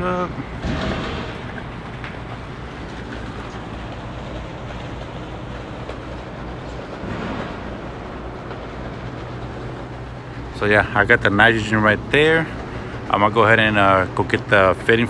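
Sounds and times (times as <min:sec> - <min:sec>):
low drone: 0:00.0 - 0:15.0
refrigeration units humming: 0:00.0 - 0:15.0.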